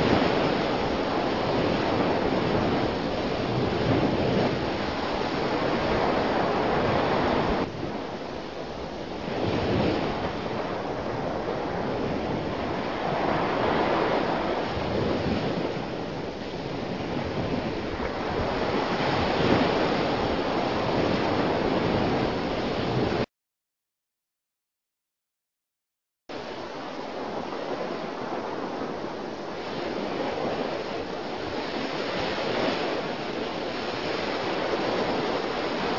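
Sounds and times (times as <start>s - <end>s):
ocean waves breaking on shore: 0.0s - 23.3s, 26.3s - 35.9s.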